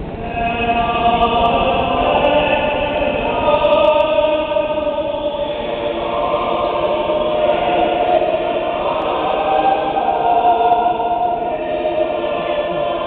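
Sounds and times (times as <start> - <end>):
choir singing chant with echo: 0.2 - 13.0.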